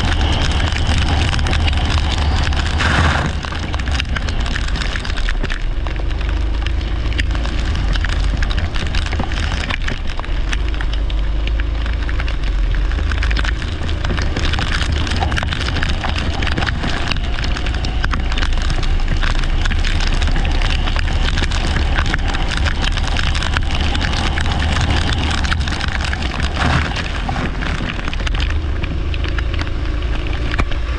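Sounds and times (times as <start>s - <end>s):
faint kart engine: 0.0s - 30.9s
rain and spray noise: 0.0s - 30.9s
wind rumble on microphone: 0.0s - 30.9s.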